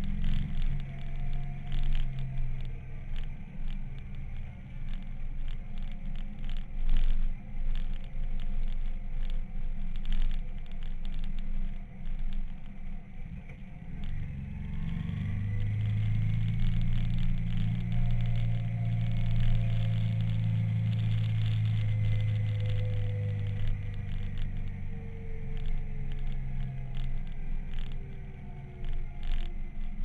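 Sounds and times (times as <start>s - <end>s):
low engine hum: 0.0s - 30.0s
wind and road rumble: 0.0s - 30.0s.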